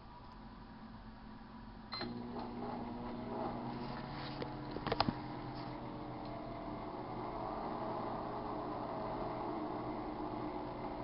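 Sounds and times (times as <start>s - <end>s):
microwave humming: 1.9s - 11.0s.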